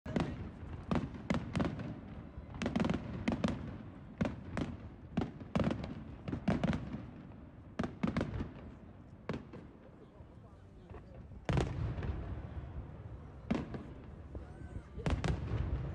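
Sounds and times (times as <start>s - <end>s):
fireworks bangs and pops: 0.1s - 10.0s, 10.6s - 15.9s.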